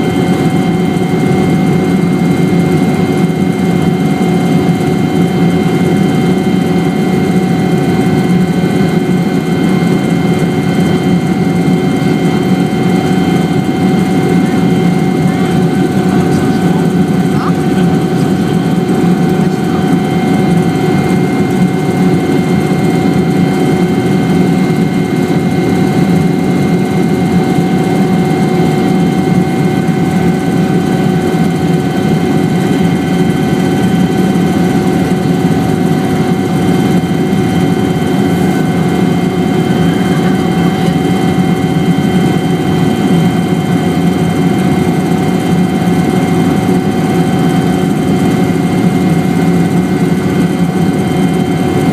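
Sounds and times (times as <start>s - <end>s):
helicopter engine and rotor drone: 0.0s - 51.9s
high whine: 0.0s - 51.9s.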